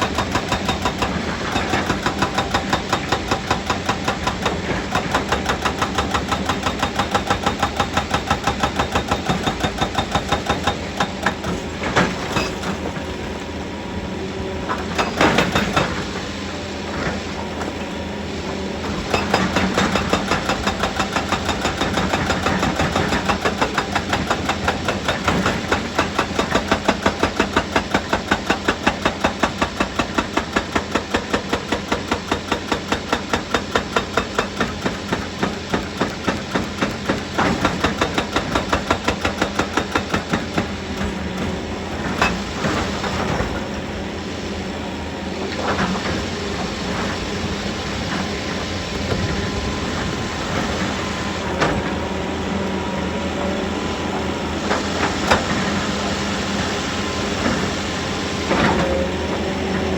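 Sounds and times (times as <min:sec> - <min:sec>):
heavy machinery running: 0:00.0 - 0:59.9.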